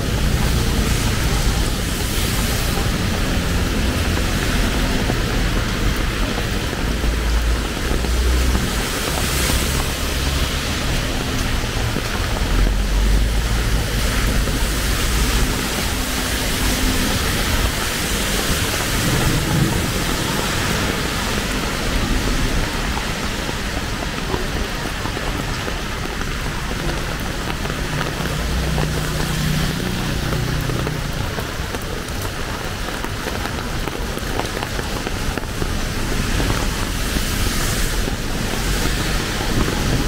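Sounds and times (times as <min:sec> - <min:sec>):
heavy rain on street: 0:00.0 - 0:40.0
passing vehicle engines: 0:00.0 - 0:40.0.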